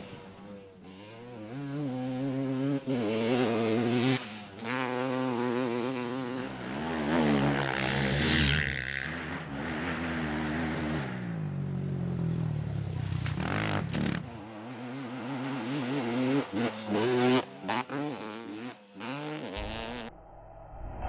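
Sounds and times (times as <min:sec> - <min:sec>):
quad engine revving: 0:00.0 - 0:12.2, 0:13.2 - 0:20.1.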